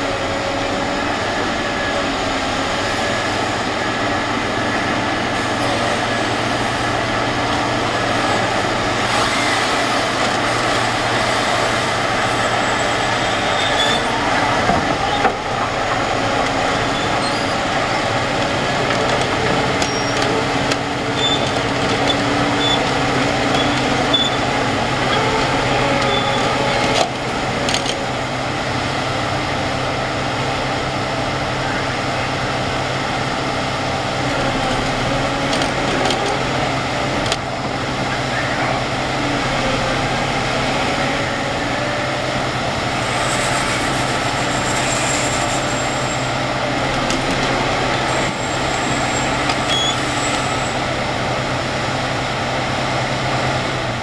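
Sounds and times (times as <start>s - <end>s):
diesel engine running under load: 0.0s - 54.0s
hydraulic whine: 0.0s - 54.0s.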